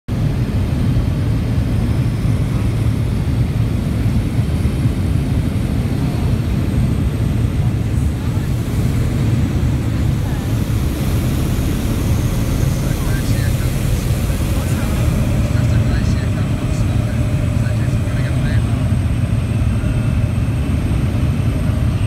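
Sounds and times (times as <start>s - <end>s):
aircraft engine droning: 0.1s - 22.0s.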